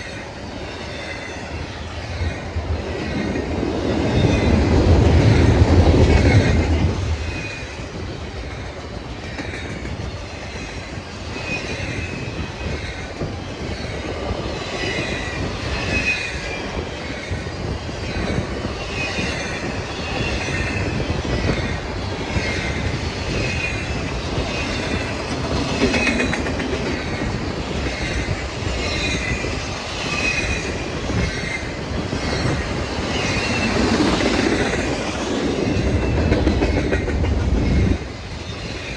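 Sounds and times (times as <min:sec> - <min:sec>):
train rumbling past: 0:00.0 - 0:38.9
train wheel squeals: 0:00.0 - 0:38.9.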